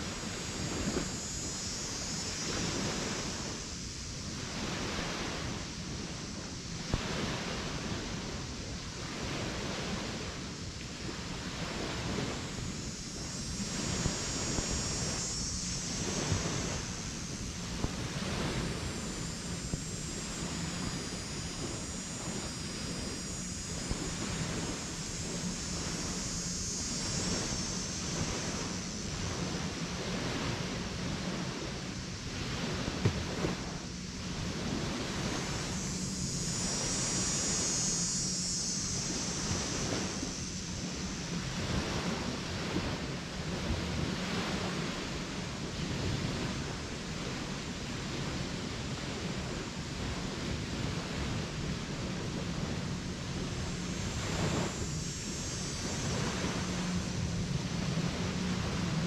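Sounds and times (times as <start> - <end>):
steady low hum: 0.0 - 59.0
waves breaking on sandy beach: 0.0 - 59.0.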